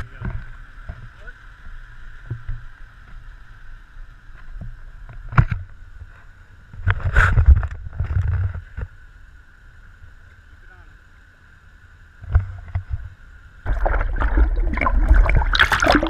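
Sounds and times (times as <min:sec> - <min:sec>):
faint steady whine: 0:00.0 - 0:16.0
wind and sea water rumble: 0:00.0 - 0:16.0.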